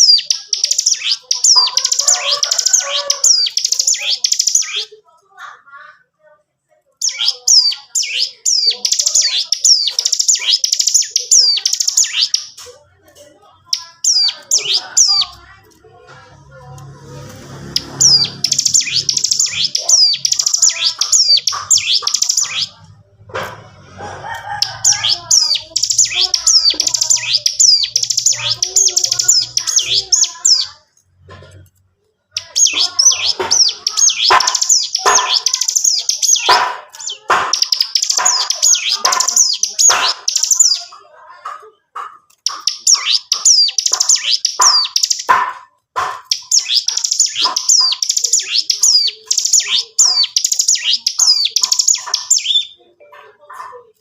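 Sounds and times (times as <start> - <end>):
bird singing rattling trills: 0.0 - 5.0, 7.0 - 12.6, 13.6 - 15.7, 17.2 - 22.9, 24.3 - 30.8, 32.3 - 41.0, 42.0 - 52.8.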